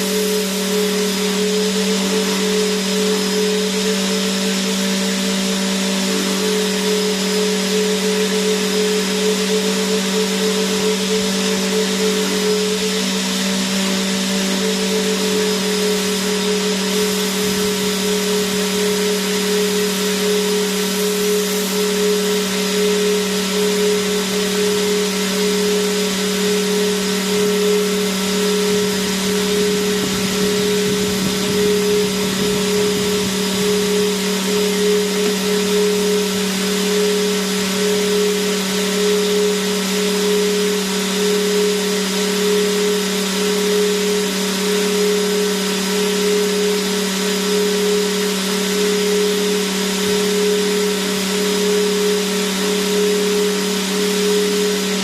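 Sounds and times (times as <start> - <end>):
vacuum cleaner motor running: 0.0 - 55.0.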